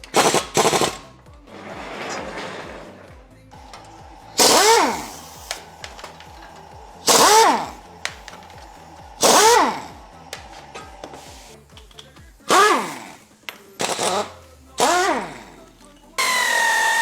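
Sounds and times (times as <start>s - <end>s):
pneumatic air tool bursts: 0.0s - 1.1s, 3.6s - 17.0s
background music with steady beat: 0.0s - 17.0s.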